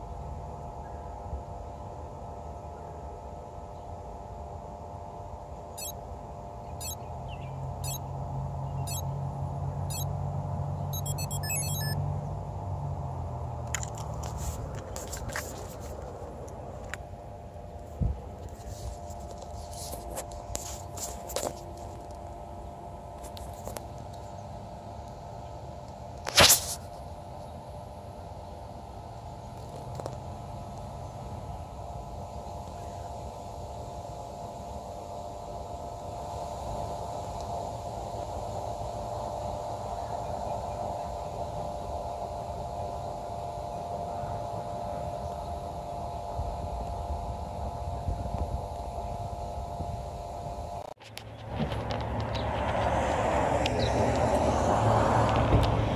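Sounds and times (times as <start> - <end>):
low hum drone: 0.0 - 55.9.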